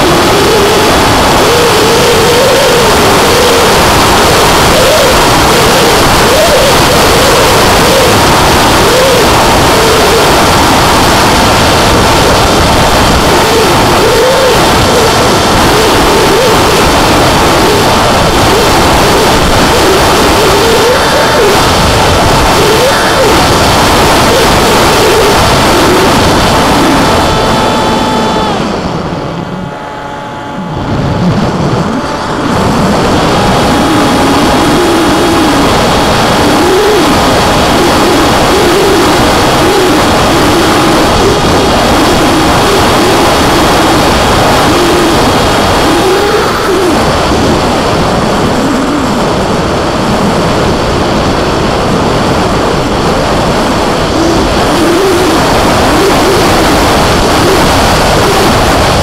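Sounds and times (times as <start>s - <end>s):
electric motor whine: 0.0s - 49.2s
wind rush: 0.0s - 59.0s.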